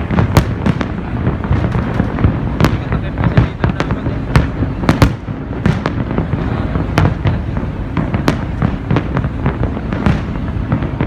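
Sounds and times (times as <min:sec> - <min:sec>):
distant fireworks rumble: 0:00.0 - 0:11.0
fireworks bangs and cracks: 0:00.0 - 0:11.0.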